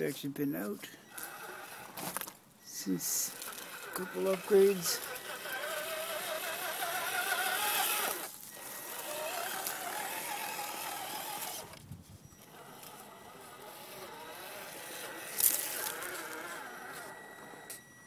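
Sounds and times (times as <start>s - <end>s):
toy truck electric motor whining: 0.7s - 18.0s.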